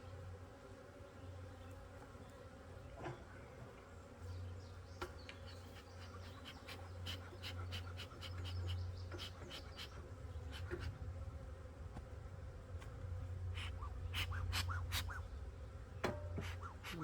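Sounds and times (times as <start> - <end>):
honey bees buzzing: 0.0 - 17.0.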